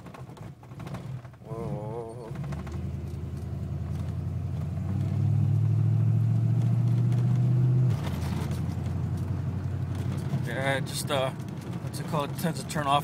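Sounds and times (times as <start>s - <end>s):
car engine running under throttle: 0.0s - 13.0s.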